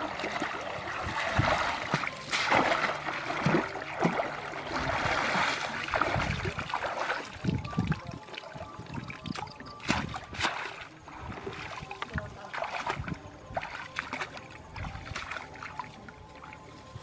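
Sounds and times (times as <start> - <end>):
muddy water splashing and sloshing: 0.0 - 17.0.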